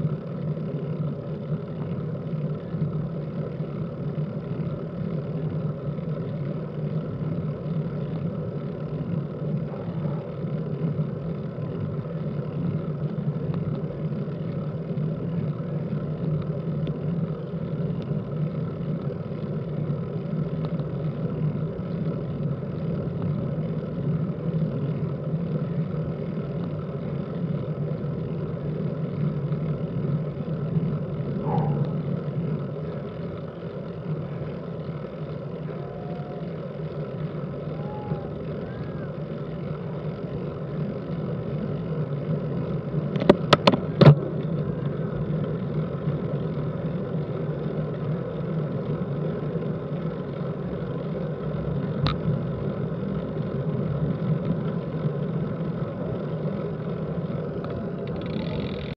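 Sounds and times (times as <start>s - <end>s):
bike tyre and wind rumble: 0.0s - 58.9s
sharp bike clicks: 0.0s - 58.9s.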